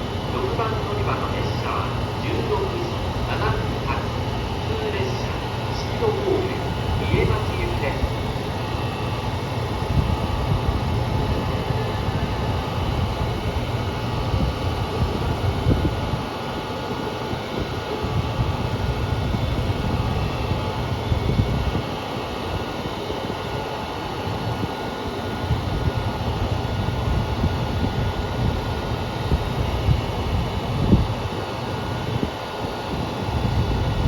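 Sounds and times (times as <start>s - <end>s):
diesel railcar rumble: 0.0s - 34.0s.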